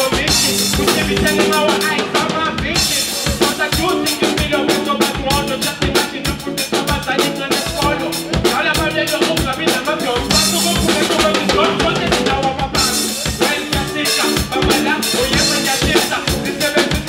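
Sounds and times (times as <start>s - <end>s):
drum kit strikes: 0.0s - 17.0s
live band music: 0.0s - 17.0s.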